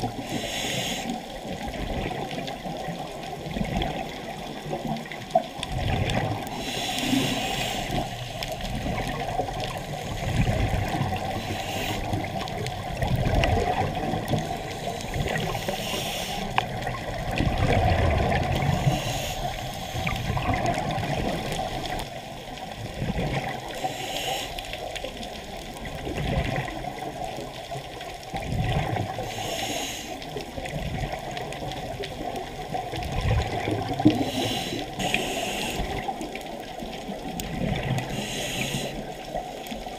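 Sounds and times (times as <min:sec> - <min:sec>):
muffled underwater noise: 0:00.0 - 0:39.9
scuba exhaust bubbles: 0:00.0 - 0:39.9.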